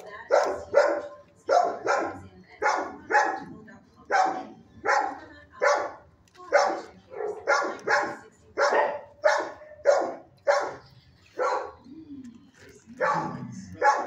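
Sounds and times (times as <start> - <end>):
dogs barking: 0.2 - 11.9, 13.0 - 14.0.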